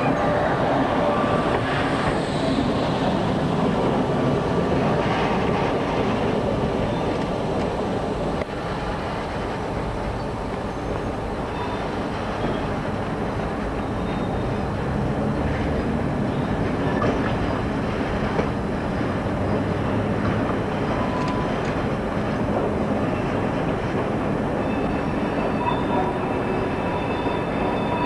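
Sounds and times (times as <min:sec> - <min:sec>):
electric train passing on track: 0:00.0 - 0:28.0.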